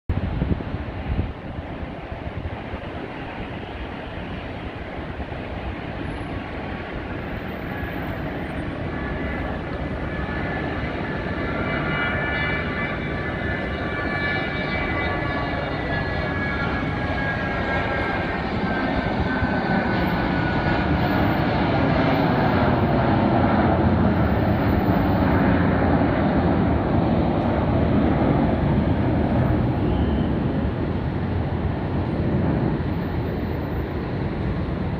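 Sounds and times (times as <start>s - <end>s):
jet engine rumble: 0.1s - 34.9s
jet engines whining: 0.2s - 34.9s.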